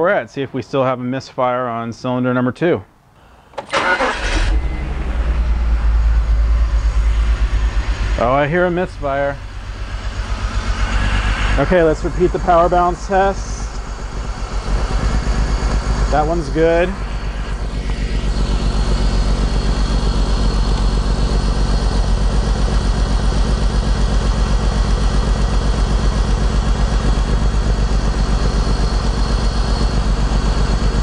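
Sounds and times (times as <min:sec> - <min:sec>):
car engine idling: 0:03.6 - 0:31.0.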